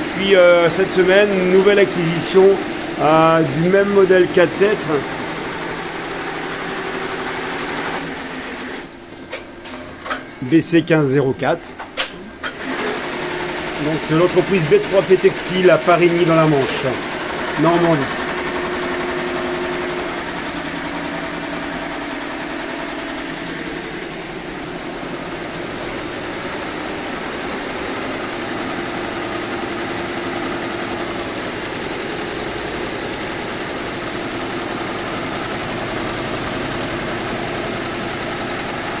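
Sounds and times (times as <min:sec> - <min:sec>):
embroidery machine clattering: 0:00.0 - 0:10.7, 0:11.8 - 0:39.0.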